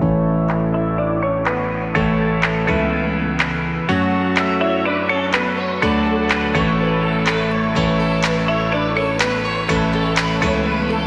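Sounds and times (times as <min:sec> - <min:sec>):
soft ambient instrumental music: 0:00.0 - 0:11.0.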